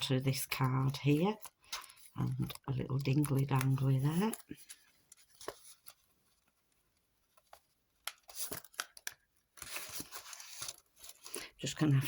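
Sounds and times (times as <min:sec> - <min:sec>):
paper rustling: 0:00.3 - 0:12.0.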